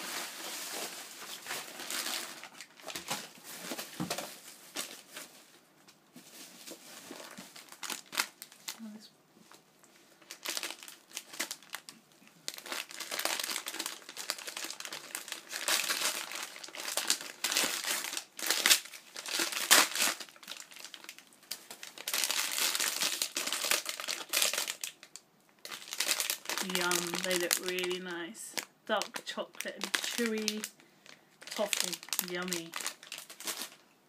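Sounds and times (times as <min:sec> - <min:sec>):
packaging crinkling: 0:00.0 - 0:05.6, 0:06.2 - 0:08.9, 0:10.2 - 0:11.9, 0:12.5 - 0:33.8.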